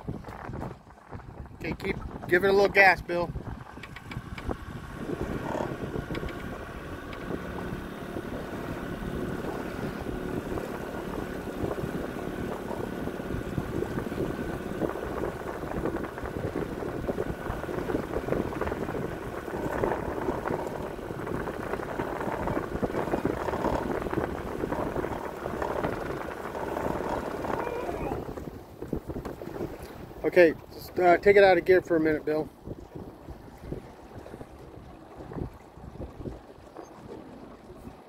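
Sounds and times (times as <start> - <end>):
boat motor running: 0.0 - 38.0
wind buffeting microphone: 0.0 - 38.0.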